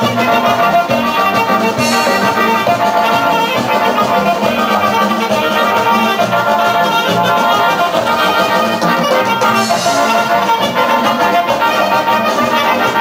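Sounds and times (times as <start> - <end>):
loud dance music: 0.0 - 13.0.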